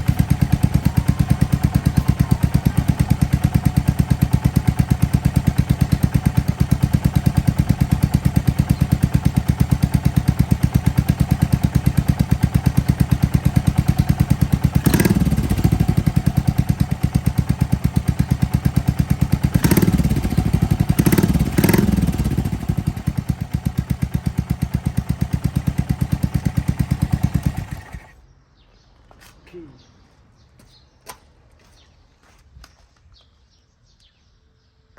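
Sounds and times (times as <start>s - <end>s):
motorcycle engine idling: 0.0s - 28.2s.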